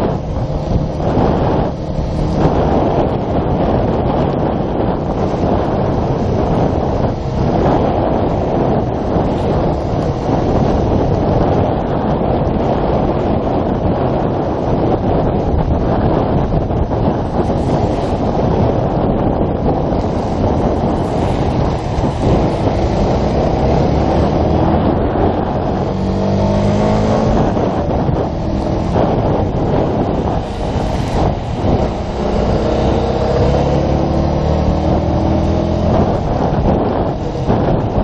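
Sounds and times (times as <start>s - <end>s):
motorcycle engine accelerating: 0.0s - 38.0s
wind buffeting microphone: 0.0s - 38.0s.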